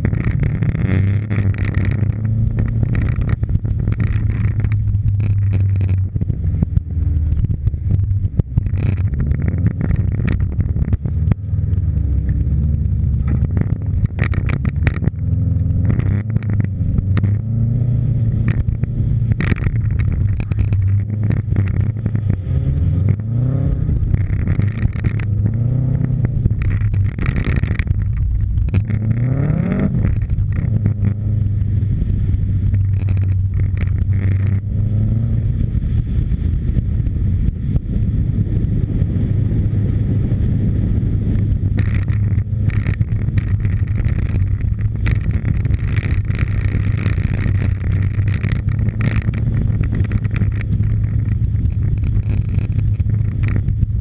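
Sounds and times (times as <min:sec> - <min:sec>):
rally car engine accelerating: 0:00.0 - 0:54.0.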